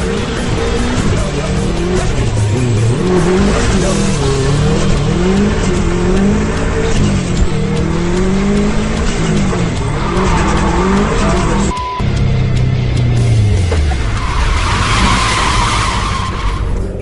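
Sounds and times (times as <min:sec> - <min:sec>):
tyres squealing: 0:00.0 - 0:11.8, 0:13.7 - 0:17.0
car engine revving: 0:00.0 - 0:17.0.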